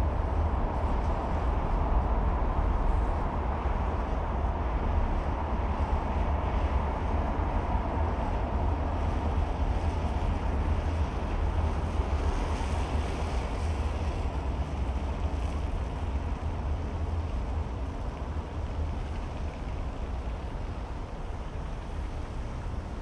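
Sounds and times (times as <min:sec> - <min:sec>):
car tyre road noise: 0:00.0 - 0:23.0.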